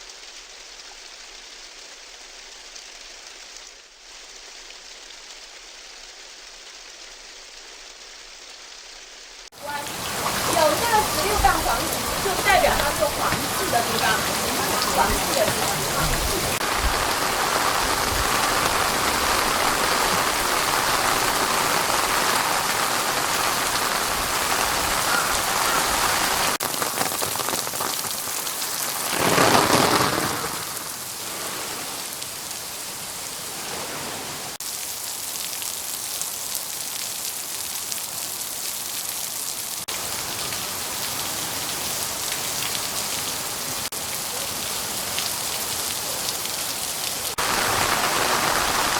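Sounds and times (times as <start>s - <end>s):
rain spattering on surfaces: 0.0s - 48.9s.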